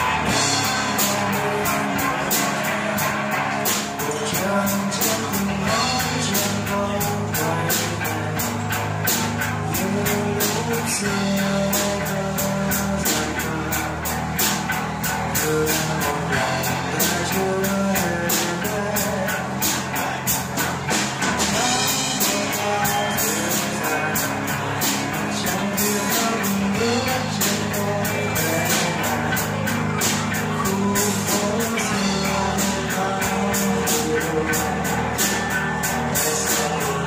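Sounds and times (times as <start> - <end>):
drum kit beat: 0.0 - 37.0
electric guitar playing: 0.0 - 37.0.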